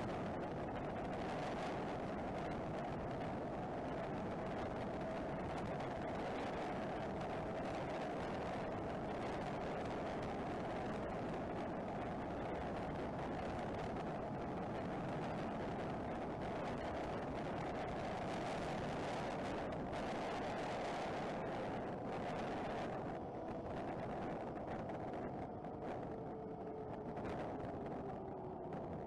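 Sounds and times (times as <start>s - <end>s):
wind rush: 0.0s - 29.0s.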